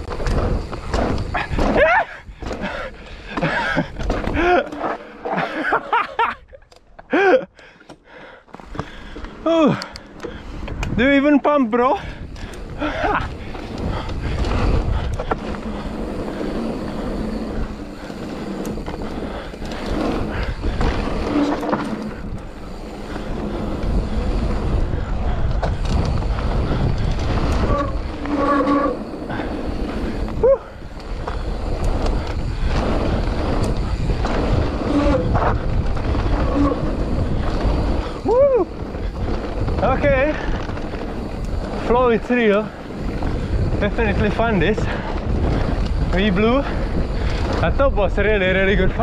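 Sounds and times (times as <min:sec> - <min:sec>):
wind buffeting microphone: 0:00.0 - 0:04.6, 0:08.6 - 0:49.0
tyres rumbling on gravel: 0:00.0 - 0:07.3, 0:08.3 - 0:49.0.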